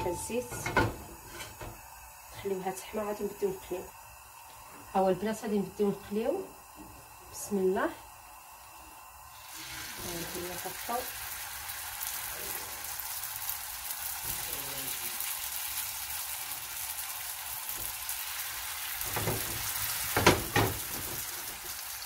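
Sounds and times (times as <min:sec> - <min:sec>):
oil sizzling in a pan: 0:00.0 - 0:22.0.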